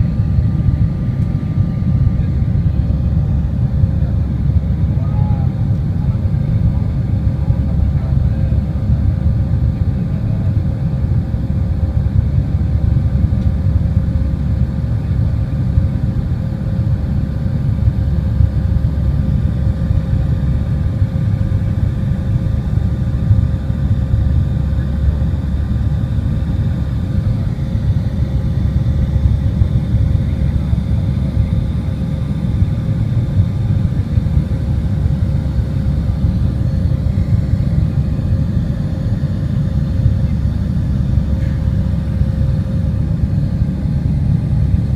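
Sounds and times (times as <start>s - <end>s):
jet engines low rumble: 0.0s - 44.9s.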